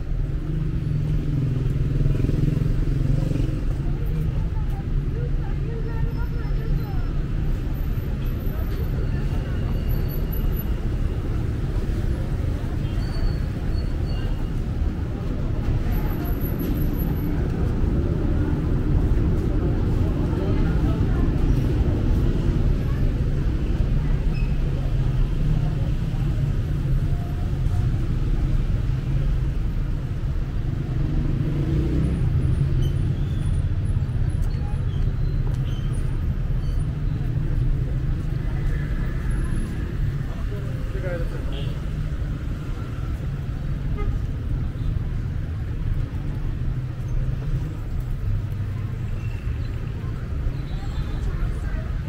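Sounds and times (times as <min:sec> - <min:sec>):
rumble of city traffic: 0:00.0 - 0:52.0.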